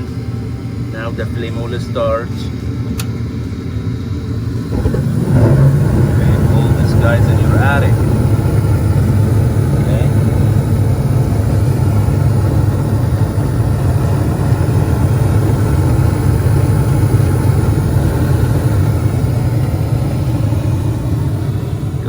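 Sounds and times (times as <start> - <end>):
gas furnace burners roaring: 0.0 - 22.0.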